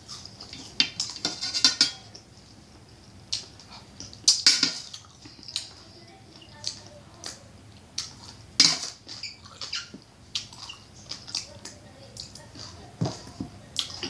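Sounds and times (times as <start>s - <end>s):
chewing: 0.0s - 1.2s, 2.1s - 14.0s.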